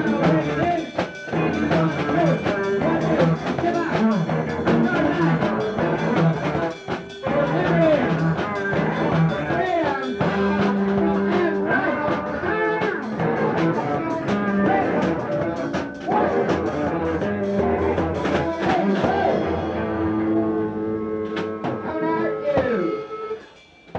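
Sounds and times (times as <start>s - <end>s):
bass guitar: 0.0s - 23.4s
electric guitar: 0.0s - 23.5s
drum kit beat: 0.0s - 23.9s.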